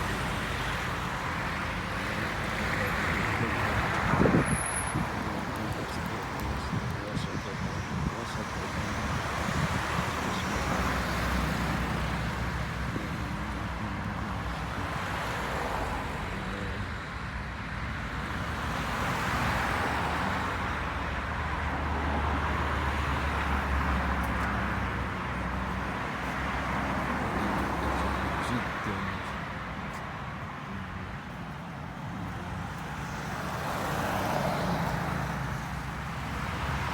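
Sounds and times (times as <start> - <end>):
steady rushing outdoor noise: 0.0 - 36.9.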